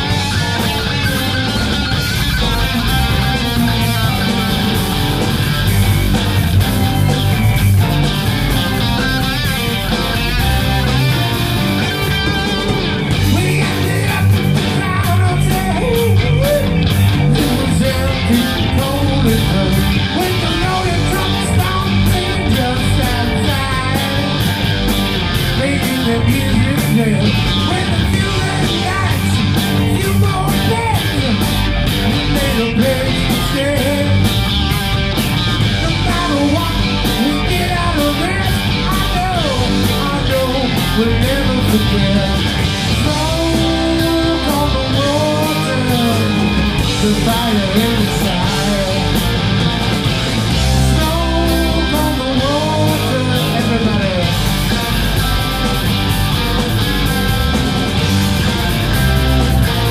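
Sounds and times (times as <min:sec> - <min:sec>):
man singing rock vocals: 0:00.0 - 0:55.8
rock band playing live: 0:00.0 - 0:59.9.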